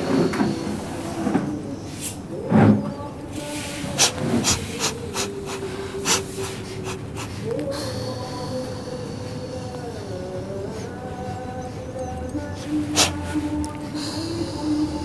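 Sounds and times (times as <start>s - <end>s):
slow melodic chanting: 0.0s - 15.0s.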